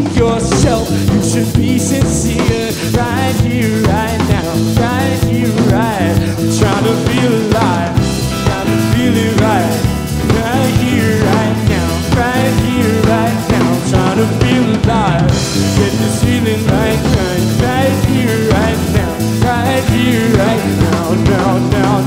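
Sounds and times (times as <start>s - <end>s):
bass guitar: 0.0s - 22.0s
drum kit beat: 0.0s - 22.0s
electric guitar: 0.0s - 22.0s
pitch-bending melody: 0.5s - 22.0s.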